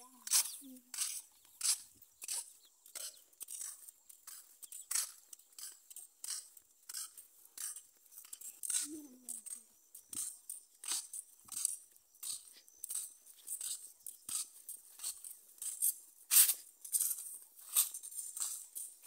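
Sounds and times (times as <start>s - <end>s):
footsteps on dirt path: 0.0s - 19.0s.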